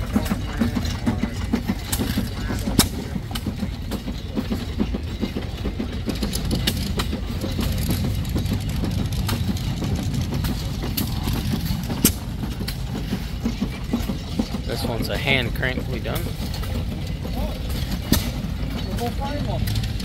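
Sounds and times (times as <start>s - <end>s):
gas engine rumbling with pops: 0.0s - 20.0s.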